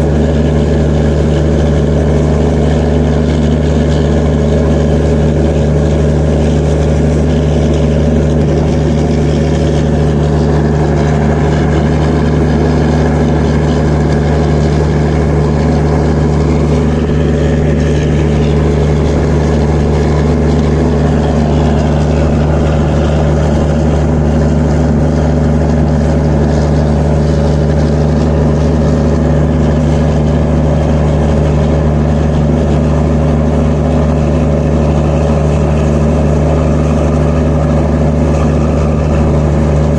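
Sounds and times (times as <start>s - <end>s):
diesel generator humming: 0.0s - 39.9s.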